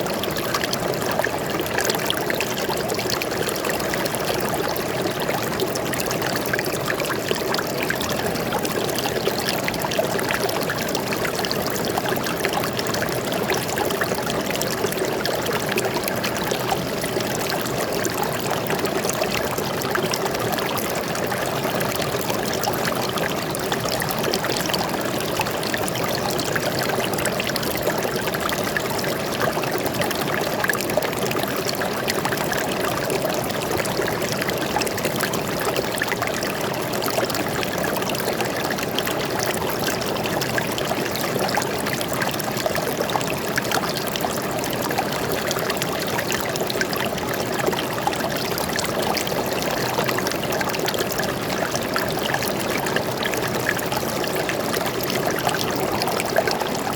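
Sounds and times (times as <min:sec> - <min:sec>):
stream trickling and splashing: 0:00.0 - 0:56.9.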